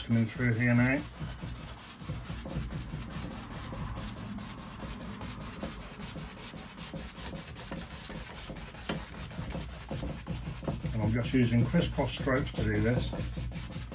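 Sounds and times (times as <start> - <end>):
paintbrush brushing across canvas: 0.0 - 13.9.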